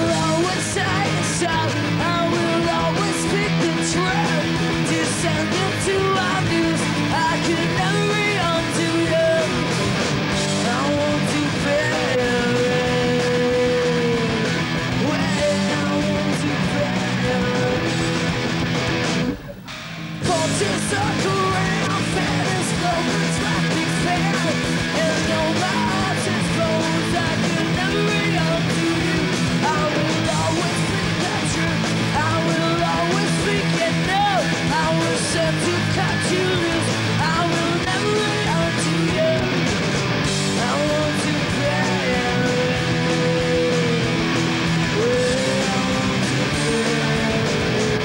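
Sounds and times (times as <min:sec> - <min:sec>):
woman singing: 0:00.0 - 0:09.7, 0:10.6 - 0:14.4, 0:15.0 - 0:18.2, 0:20.2 - 0:39.6, 0:40.5 - 0:44.2, 0:44.8 - 0:48.0
bass guitar: 0:00.0 - 0:48.0
distorted electric guitars: 0:00.0 - 0:48.0
drums: 0:00.0 - 0:48.0
punk rock band playing live: 0:00.0 - 0:48.0.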